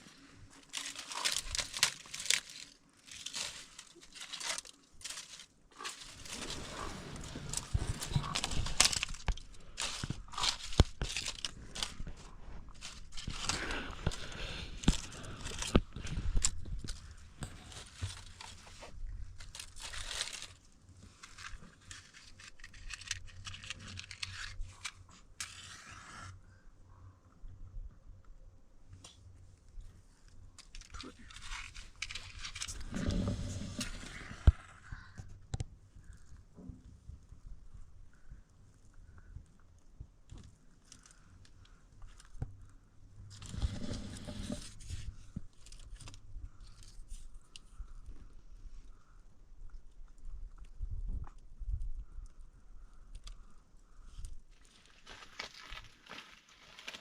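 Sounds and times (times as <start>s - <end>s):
crinkling and rustling: 0.0s - 25.8s, 28.9s - 49.1s, 53.1s - 57.0s.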